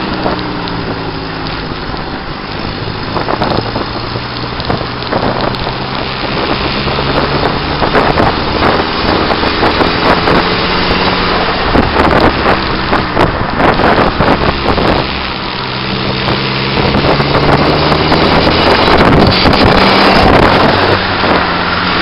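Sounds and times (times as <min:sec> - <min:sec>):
car engine humming: 0:00.0 - 0:22.0
tyre and road noise: 0:00.0 - 0:22.0
wind buffeting microphone: 0:00.0 - 0:22.0.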